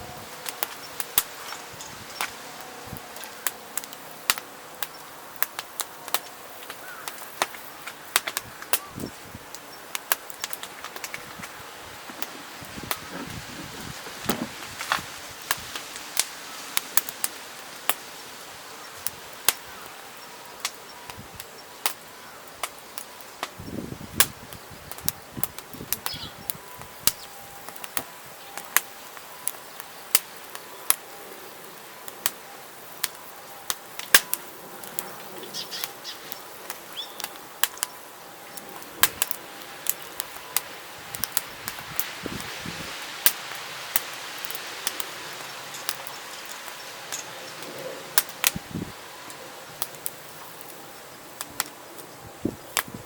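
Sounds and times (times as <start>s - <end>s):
firewood crackling and popping: 0.0s - 53.0s.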